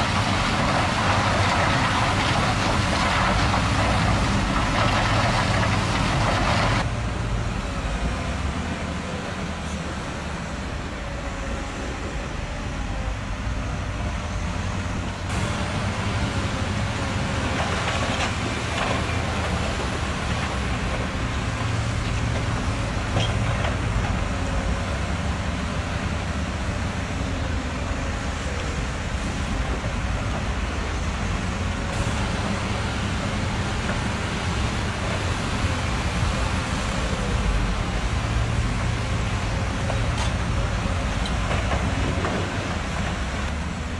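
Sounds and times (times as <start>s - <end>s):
diesel truck engine humming: 0.0s - 43.9s.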